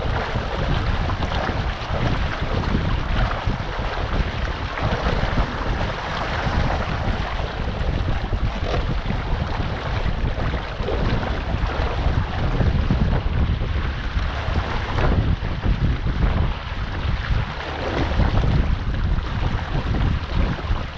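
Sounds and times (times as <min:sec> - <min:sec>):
water rushing along boat hull: 0:00.0 - 0:20.9
wind buffeting microphone: 0:00.0 - 0:20.9.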